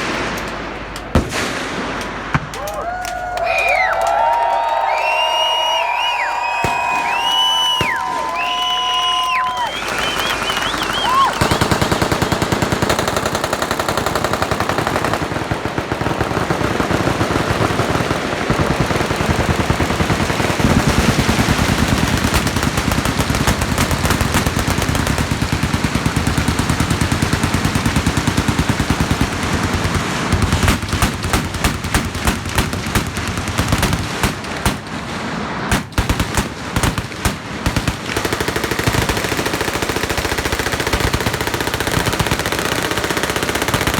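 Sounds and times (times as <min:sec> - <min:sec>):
machine guns firing: 0:00.0 - 0:03.0, 0:04.7 - 0:43.9.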